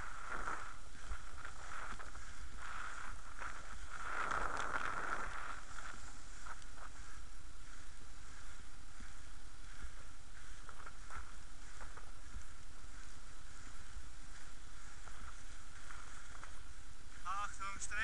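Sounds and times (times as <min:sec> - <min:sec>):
skate wheels rolling on wet asphalt: 0:00.0 - 0:18.0
wind on camera: 0:00.0 - 0:18.0.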